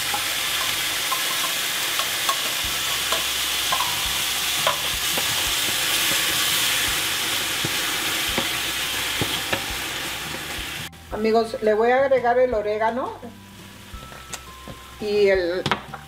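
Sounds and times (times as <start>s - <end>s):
vegetables sizzling in a skillet: 0.0s - 16.0s.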